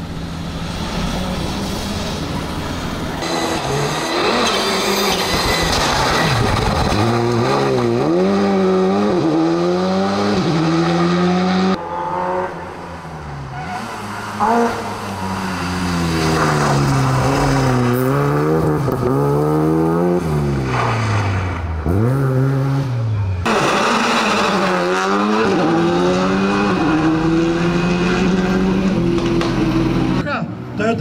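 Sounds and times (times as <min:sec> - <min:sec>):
rally car engine revving: 0:00.7 - 0:30.2.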